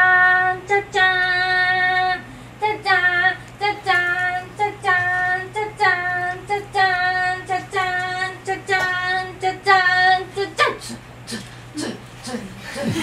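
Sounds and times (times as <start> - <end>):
faint low hum: 0.0 - 13.0
woman singing slow song: 0.0 - 13.0.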